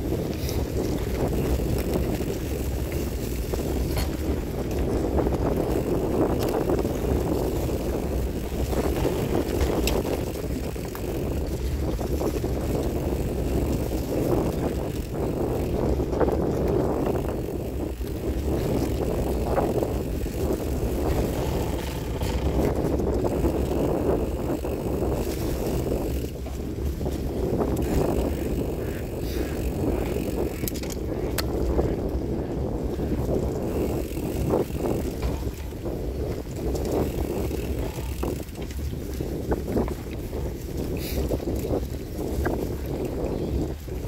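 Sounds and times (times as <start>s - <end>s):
bicycle tyre rumble on dirt: 0.0s - 44.0s
bike clicks and rattles: 0.0s - 44.0s
wind noise on microphone: 0.0s - 44.0s.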